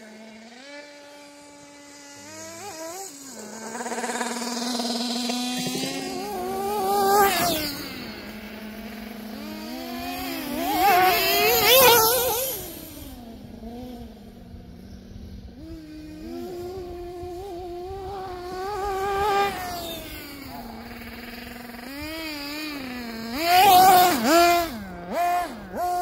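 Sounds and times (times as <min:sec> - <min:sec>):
model car engine revving and whining: 0:00.0 - 0:26.0.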